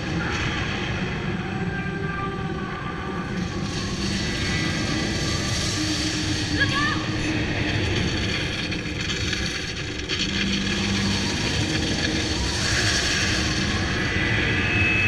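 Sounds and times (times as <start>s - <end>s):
dark ride rushing noise: 0.0s - 15.0s
low hum: 0.0s - 15.0s.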